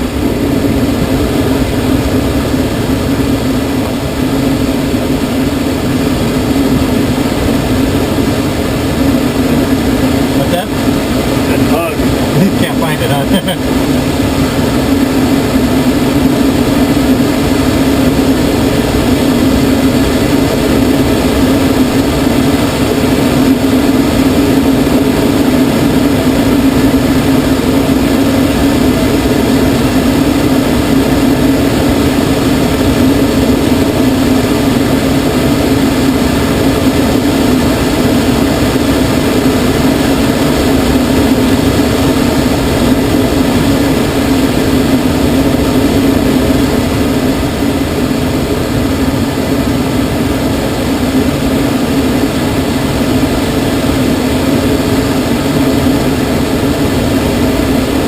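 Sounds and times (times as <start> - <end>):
air rushing over glider: 0.0 - 58.0.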